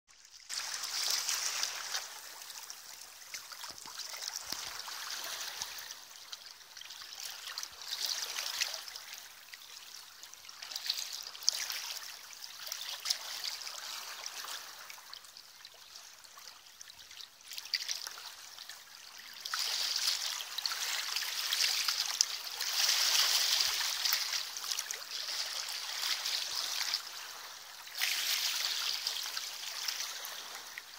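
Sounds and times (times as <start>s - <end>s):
small waves lapping on rocks: 0.5s - 15.1s, 19.4s - 30.9s.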